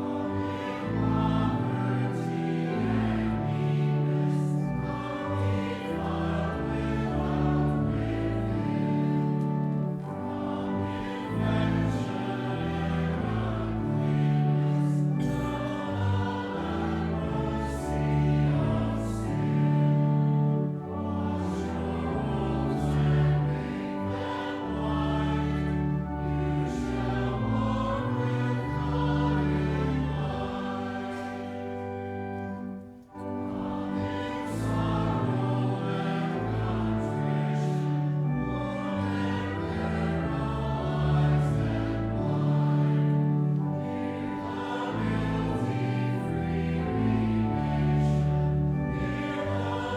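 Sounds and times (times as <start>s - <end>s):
choir singing sustained chords: 0.0s - 49.9s.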